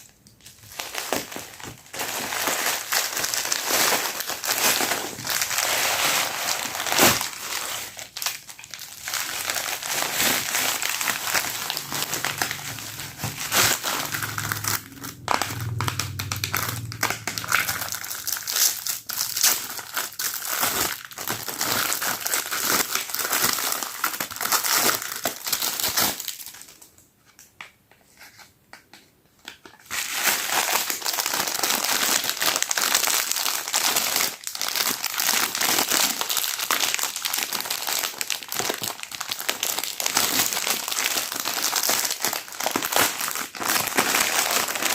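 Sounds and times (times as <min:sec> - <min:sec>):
packaging crinkling and rustling: 0:00.0 - 0:44.9.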